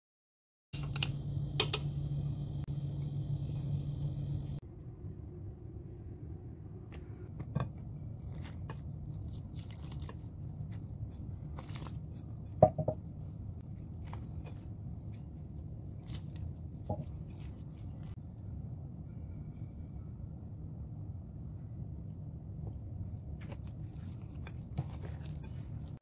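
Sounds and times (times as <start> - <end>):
steady low hum: 0.8 - 26.0.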